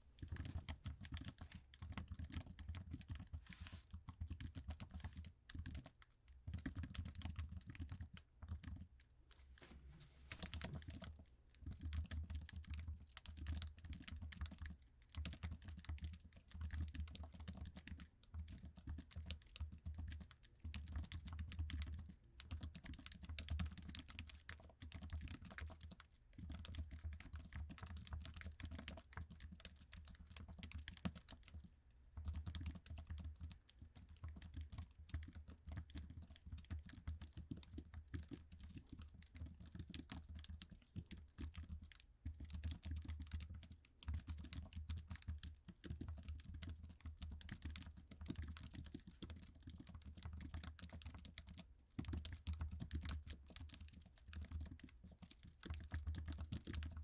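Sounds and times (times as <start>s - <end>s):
fast typing on keyboard: 0.2s - 9.0s, 10.4s - 57.0s.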